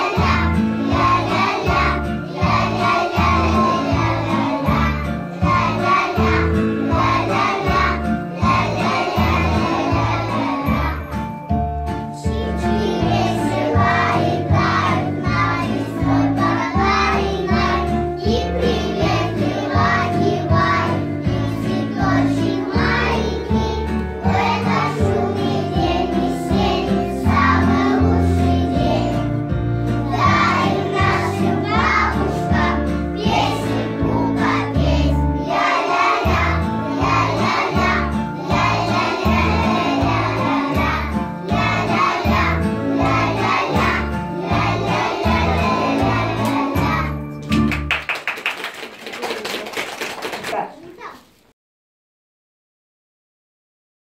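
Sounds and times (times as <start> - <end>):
children singing: 0.0 - 11.3, 12.2 - 29.3, 30.0 - 47.2.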